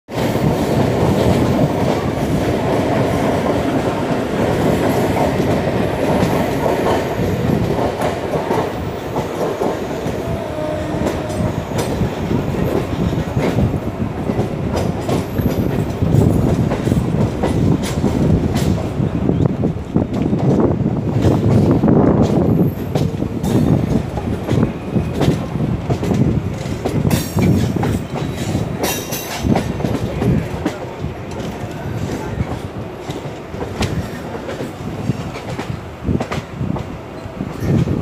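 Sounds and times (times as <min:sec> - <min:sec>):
train wheels rumbling on rails: 0:00.1 - 0:38.0.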